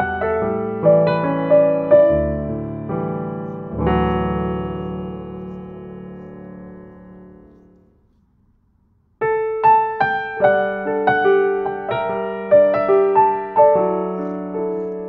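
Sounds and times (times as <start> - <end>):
piano music: 0.0 - 7.8, 9.2 - 15.0.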